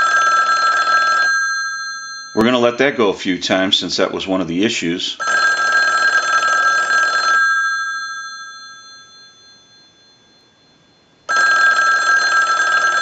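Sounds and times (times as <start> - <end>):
telephone bells ringing: 0.0 - 2.8, 5.2 - 13.0.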